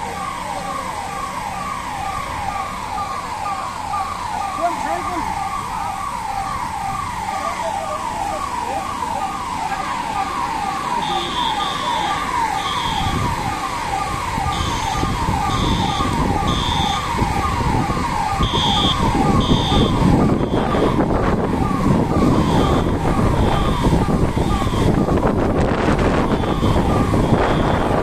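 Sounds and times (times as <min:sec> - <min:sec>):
electronic siren falling tone: 0:01.2 - 0:28.0.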